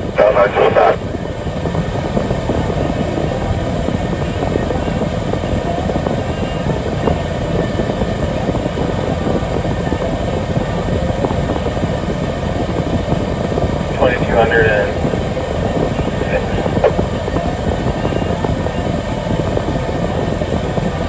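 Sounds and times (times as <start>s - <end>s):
diesel engine rumble: 0.0s - 21.0s.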